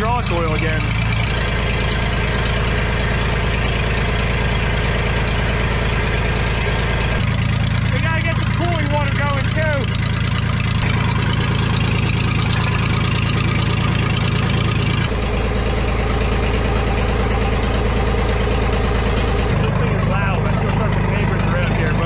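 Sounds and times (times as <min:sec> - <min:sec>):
worn engine running with pulsing beat: 0:00.0 - 0:22.0.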